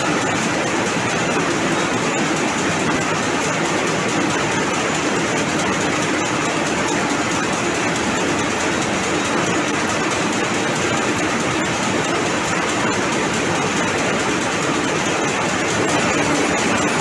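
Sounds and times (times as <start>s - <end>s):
looms clattering: 0.0s - 17.0s.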